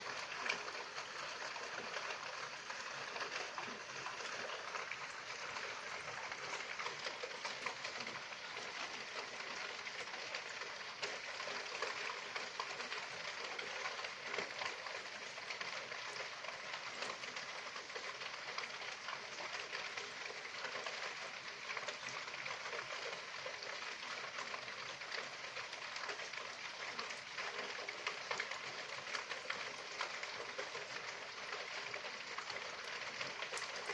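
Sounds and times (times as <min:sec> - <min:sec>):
rain on a hard surface: 0:00.0 - 0:33.9.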